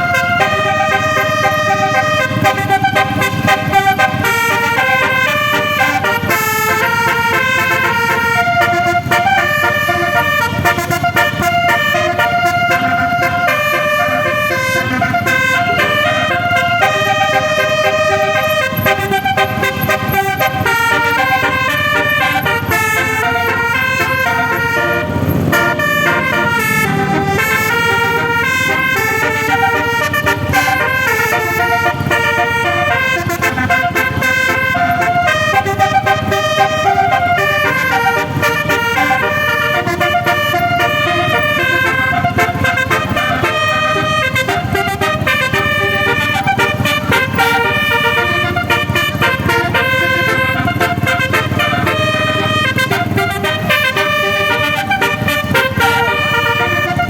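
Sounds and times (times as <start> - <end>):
multi-tone bus horn tune: 0.0 - 57.0.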